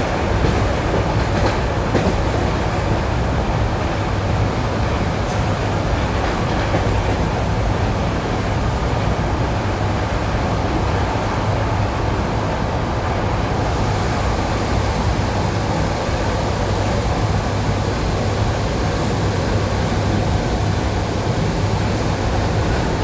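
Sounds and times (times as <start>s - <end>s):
train rumbling inside carriage: 0.0s - 23.0s.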